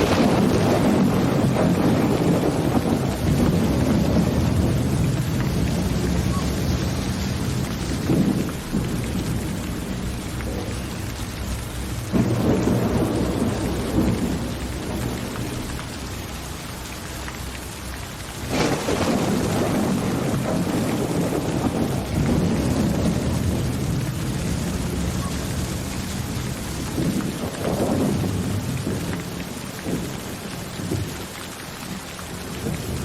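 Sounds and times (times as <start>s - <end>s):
rolling thunder: 0.0s - 33.0s
steady rain: 0.0s - 33.0s.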